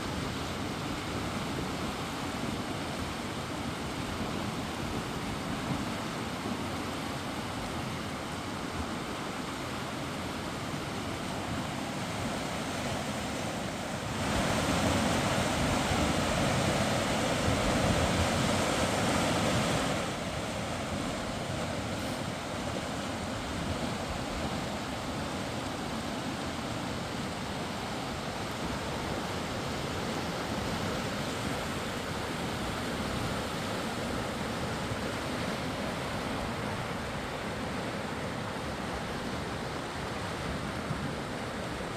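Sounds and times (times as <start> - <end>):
river rushing: 0.0 - 41.9.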